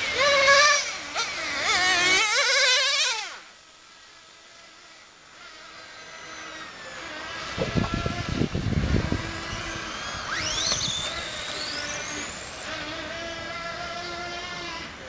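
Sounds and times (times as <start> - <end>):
electric motor whining: 0.0 - 15.0
faint distant motor whine: 0.0 - 15.0.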